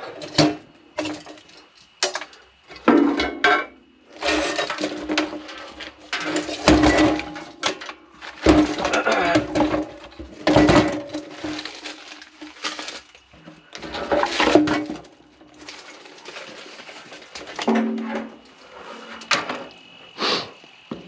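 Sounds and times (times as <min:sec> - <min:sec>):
scrap metal clanking and rattling: 0:00.0 - 0:19.7.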